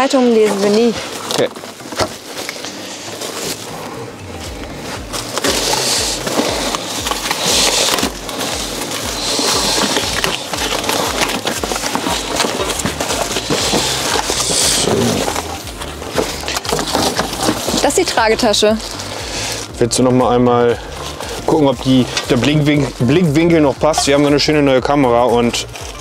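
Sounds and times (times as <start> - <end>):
plastic and cardboard rustling: 0.0 - 26.0
background music with low beat: 1.8 - 26.0.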